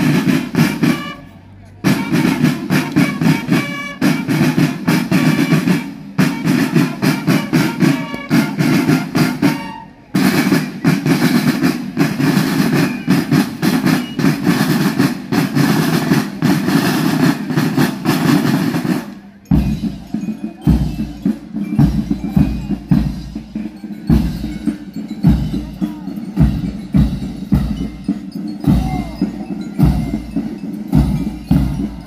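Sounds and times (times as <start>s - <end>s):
snare drums playing rolls: 0.0s - 1.2s, 1.8s - 32.0s.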